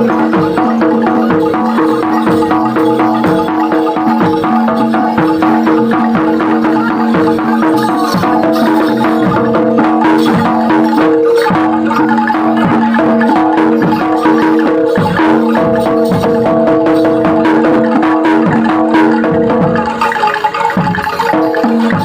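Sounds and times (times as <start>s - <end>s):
gamelan percussion music: 0.0s - 22.0s.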